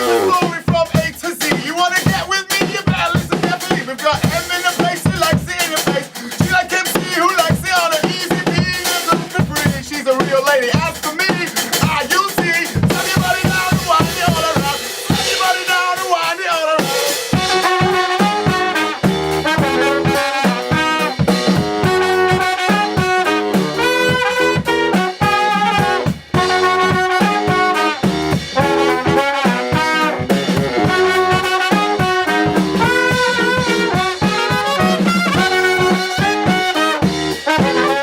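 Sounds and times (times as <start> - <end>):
brass band playing: 0.0 - 38.0
drum beat: 0.0 - 38.0.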